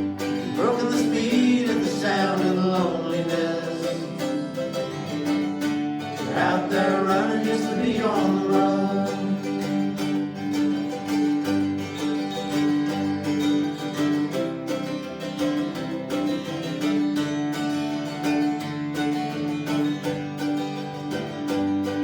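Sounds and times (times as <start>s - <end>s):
acoustic guitar country rhythm: 0.0s - 22.0s.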